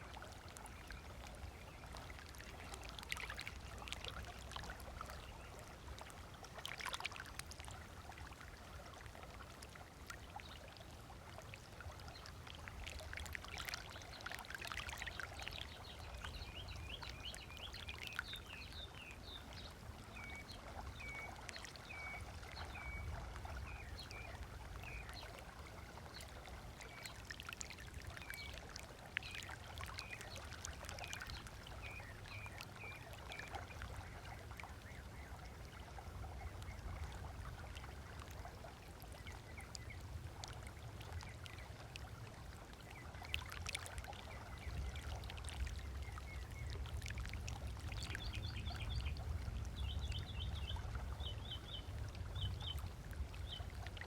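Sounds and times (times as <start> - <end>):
small waves lapping on sand: 0.0 - 54.0.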